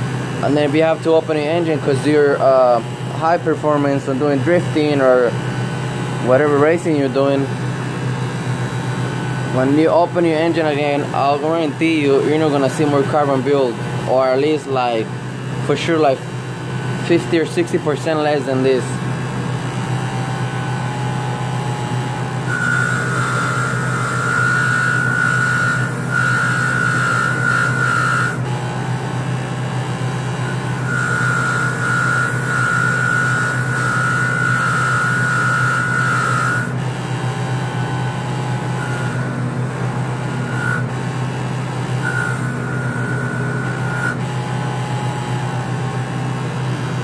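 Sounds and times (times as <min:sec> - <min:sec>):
bench grinder humming: 0:00.0 - 0:47.0.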